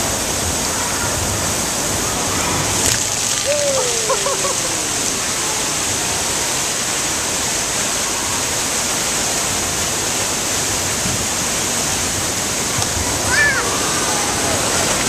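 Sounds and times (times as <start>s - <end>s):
water rushing down slide: 0.0s - 15.0s.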